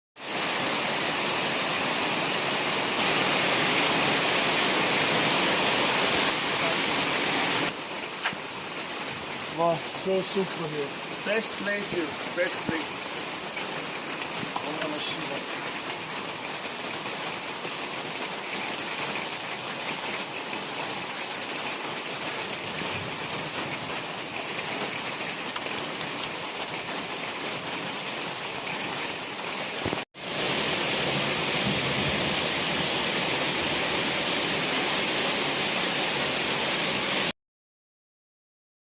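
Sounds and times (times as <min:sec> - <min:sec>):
steady rain falling: 0:00.2 - 0:37.3.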